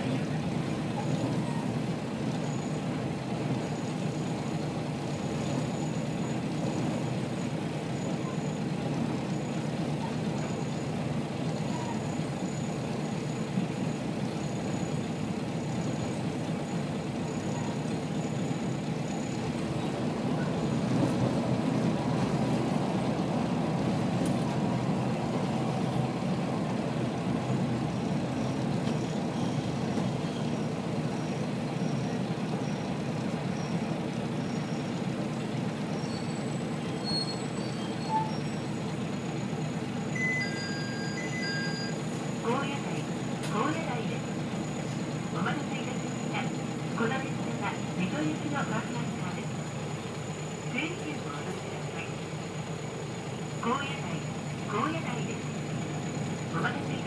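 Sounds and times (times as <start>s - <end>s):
railcar engine and rail noise: 0.0s - 57.0s.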